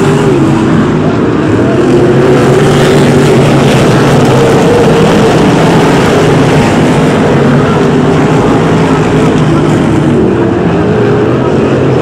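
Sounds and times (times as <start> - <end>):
racing car engines roaring: 0.0 - 12.0.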